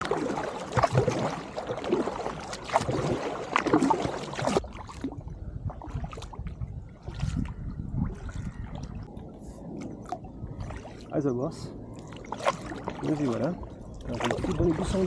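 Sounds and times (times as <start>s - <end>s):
paddle splashing water: 0.0s - 11.2s, 11.9s - 15.0s
water lapping against hull: 0.0s - 15.0s.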